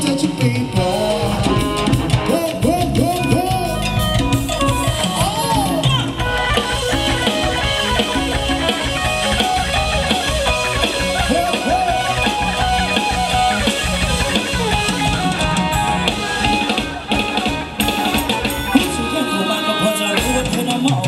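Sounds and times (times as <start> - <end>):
drum kit: 0.0 - 21.0
electric guitar: 0.0 - 21.0
live band over loudspeakers: 0.0 - 21.0.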